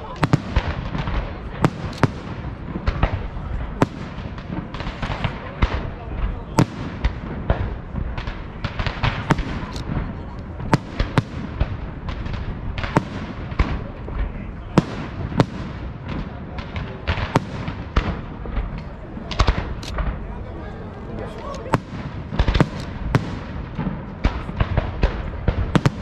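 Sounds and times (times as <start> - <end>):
continuous rumble: 0.0 - 26.0
fireworks bangs: 0.0 - 26.0.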